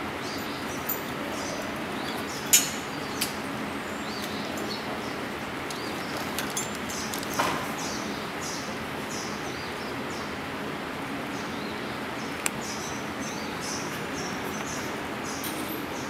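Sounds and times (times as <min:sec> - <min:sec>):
steady background noise: 0:00.0 - 0:16.0
small birds chirping: 0:00.2 - 0:10.4, 0:11.3 - 0:16.0.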